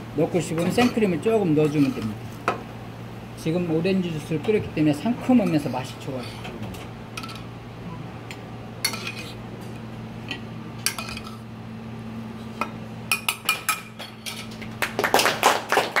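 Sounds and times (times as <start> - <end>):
steady low hum: 0.0 - 15.7.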